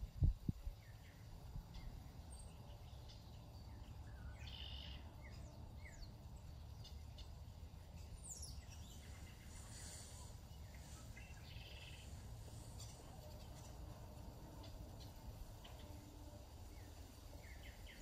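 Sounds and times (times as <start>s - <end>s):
birds chirping and calling: 0.8s - 18.0s.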